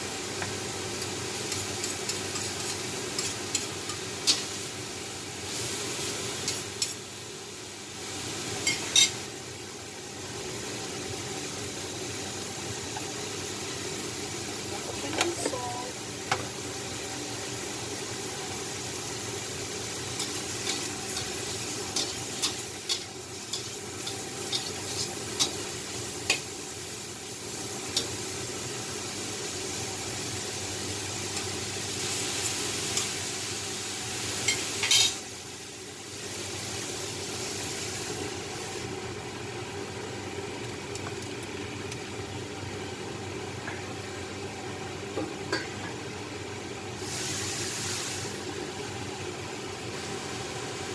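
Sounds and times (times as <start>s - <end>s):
mushrooms sizzling in a wok: 0.0s - 50.9s.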